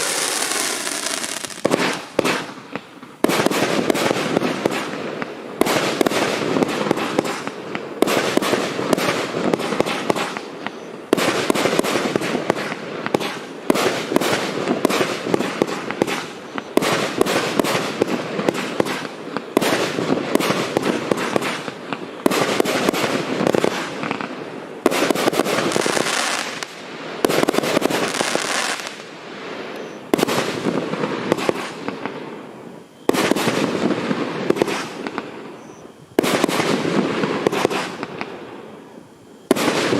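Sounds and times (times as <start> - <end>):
fireworks barrage: 0.0 - 39.9.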